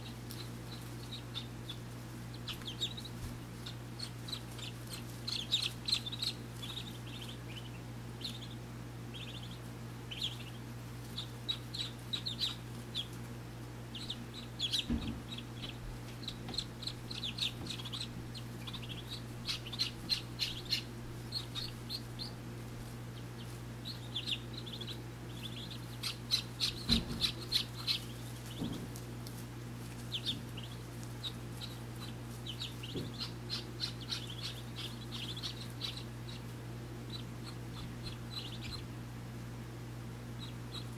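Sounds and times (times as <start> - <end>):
ducklings peeping: 0.0 - 40.9
steady low hum: 0.0 - 40.9.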